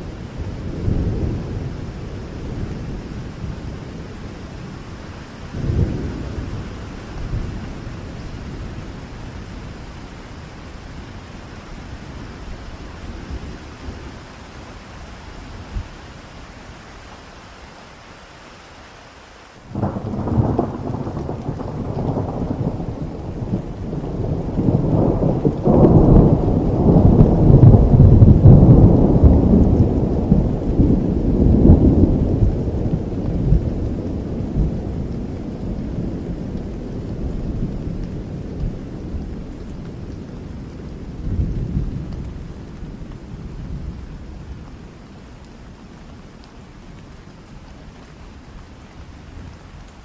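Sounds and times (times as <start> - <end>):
thunder rumbling: 0.0 - 14.6, 19.7 - 46.3
steady rain: 0.0 - 50.0.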